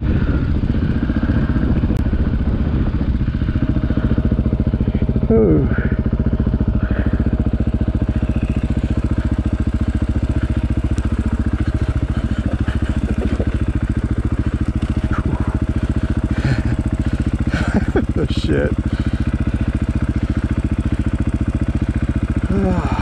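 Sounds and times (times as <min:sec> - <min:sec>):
dirt bike engine idling: 0:00.0 - 0:23.0.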